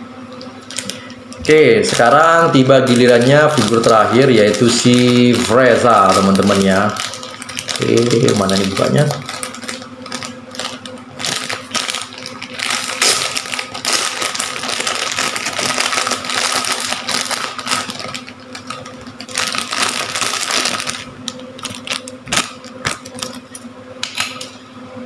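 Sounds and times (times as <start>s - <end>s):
plastic bag crinkling: 0.7s - 23.6s.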